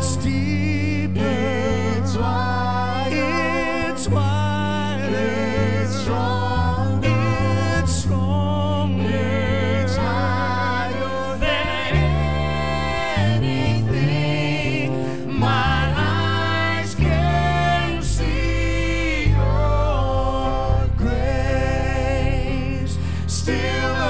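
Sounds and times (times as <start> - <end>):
people singing with vibrato: 0.0 - 24.0
sustained low bass: 0.0 - 24.0.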